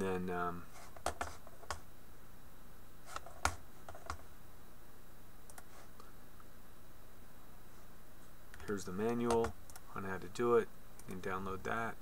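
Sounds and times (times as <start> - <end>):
faint low room hum: 0.0 - 12.0.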